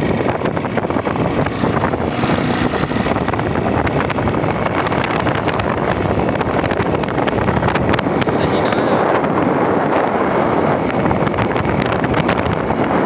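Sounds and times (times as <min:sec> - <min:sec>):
motorcycle engine at speed: 0:00.0 - 0:13.0
wind buffeting microphone: 0:00.0 - 0:13.0.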